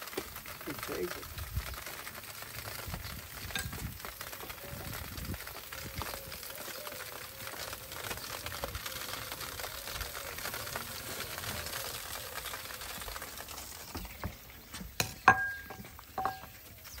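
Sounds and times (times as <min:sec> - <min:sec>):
fire crackling and popping: 0:00.0 - 0:17.0
fish sizzling on a grill: 0:00.0 - 0:17.0.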